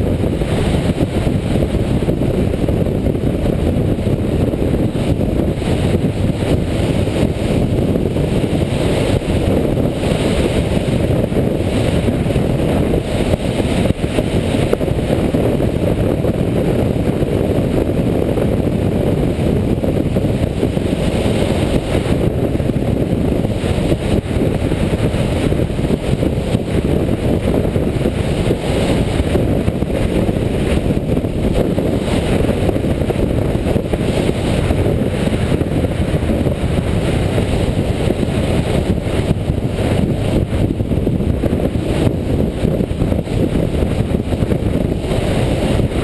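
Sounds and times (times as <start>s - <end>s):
motorcycle engine running: 0.0s - 46.0s
wind rushing over microphone: 0.0s - 46.0s.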